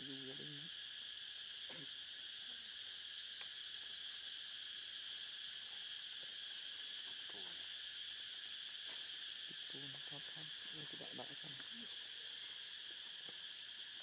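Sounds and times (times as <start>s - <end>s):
insect chorus drone: 0.0s - 14.0s.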